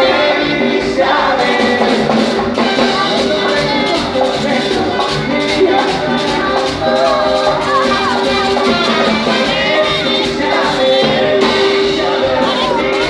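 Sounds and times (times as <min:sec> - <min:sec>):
latin band music: 0:00.0 - 0:13.0
person singing: 0:00.0 - 0:13.0
steady drum beat: 0:00.0 - 0:13.0.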